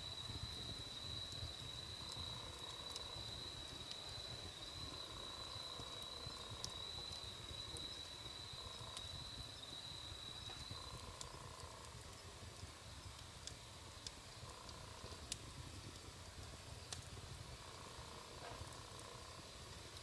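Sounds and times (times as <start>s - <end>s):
campfire crackling and popping: 0.1s - 20.0s.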